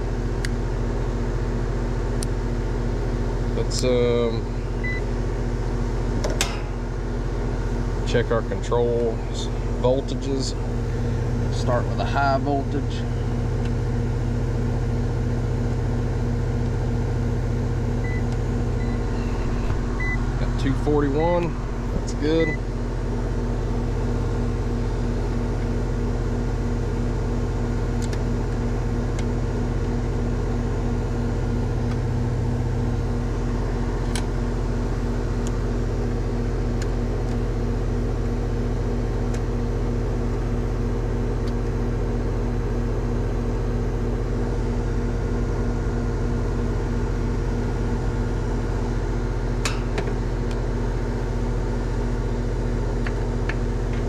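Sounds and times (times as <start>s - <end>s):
heat pump humming: 0.0s - 54.0s.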